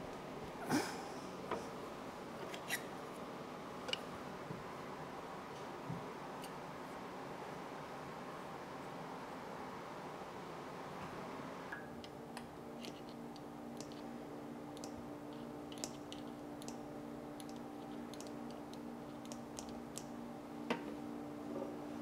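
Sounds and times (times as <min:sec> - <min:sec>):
dehumidifier humming: 0:00.0 - 0:22.0.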